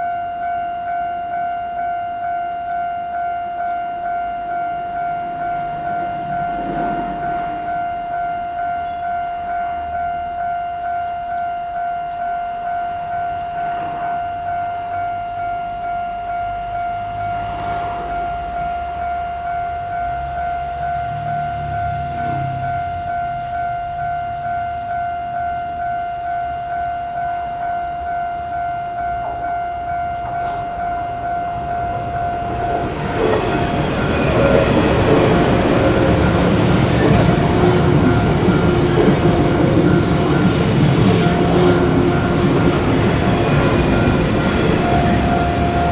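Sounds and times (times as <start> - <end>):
level crossing warning bell: 0.0 - 45.9.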